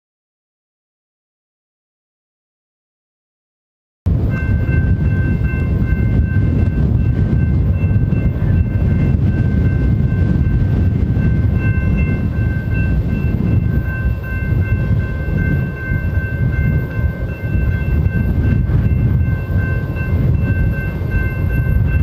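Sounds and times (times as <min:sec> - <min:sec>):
distant freight train rumble: 0:04.1 - 0:22.0.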